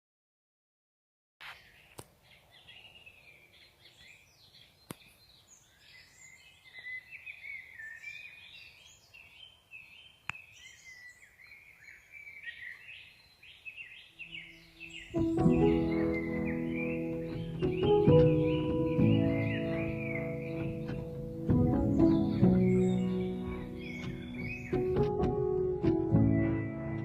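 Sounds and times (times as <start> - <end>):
birds chirping and warbling: 1.4 - 27.0.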